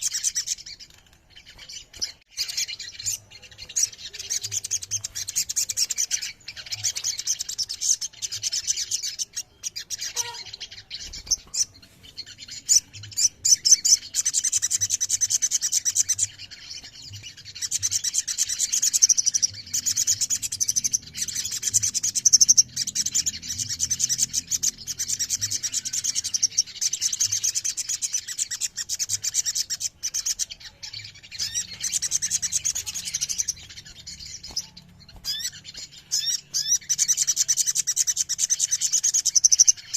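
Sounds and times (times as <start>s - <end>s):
bird high-pitched chattering: 0.0s - 39.9s.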